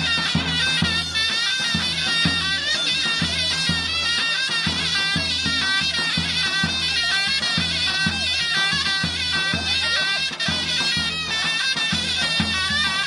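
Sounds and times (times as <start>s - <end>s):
shrill reed wind instrument melody: 0.0s - 13.0s.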